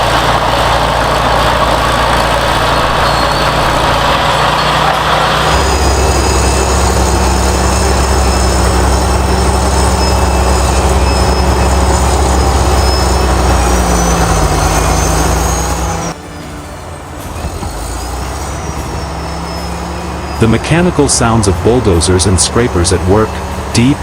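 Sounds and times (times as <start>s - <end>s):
heavy diesel machinery droning: 0.0s - 24.0s.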